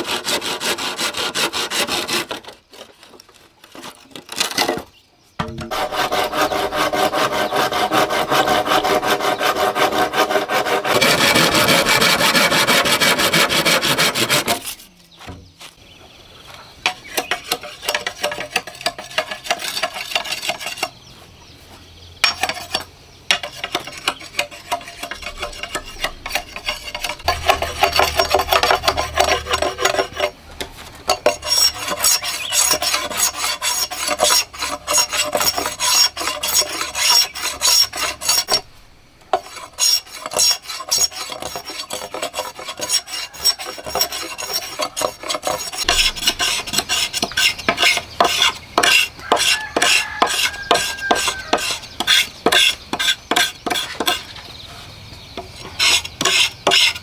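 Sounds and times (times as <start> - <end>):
knife scraping bamboo: 0.0 - 4.8, 5.4 - 15.1, 16.9 - 21.0, 22.2 - 54.4, 55.4 - 57.0.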